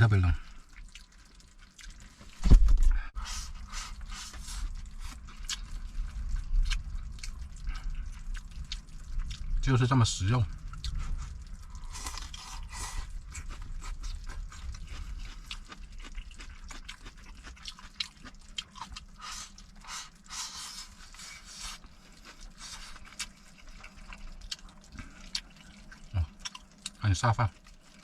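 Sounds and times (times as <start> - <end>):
wet eating noises: 0.0 - 2.4, 3.1 - 28.0.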